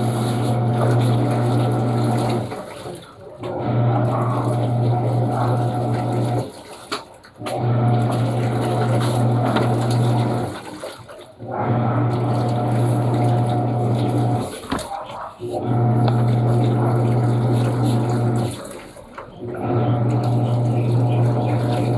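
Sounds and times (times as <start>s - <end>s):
washing machine motor hum: 0.0s - 21.9s
water churning in tub: 0.0s - 21.9s.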